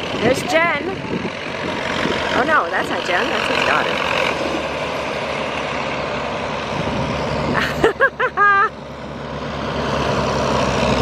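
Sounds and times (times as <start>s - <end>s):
tractor engines rumbling: 0.0s - 11.0s.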